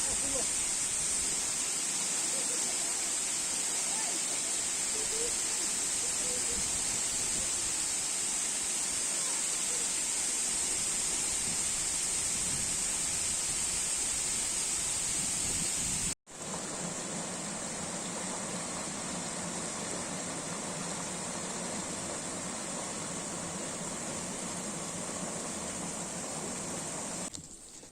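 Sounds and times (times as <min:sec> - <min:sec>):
flowing water rushing: 0:00.0 - 0:15.6, 0:16.3 - 0:27.3.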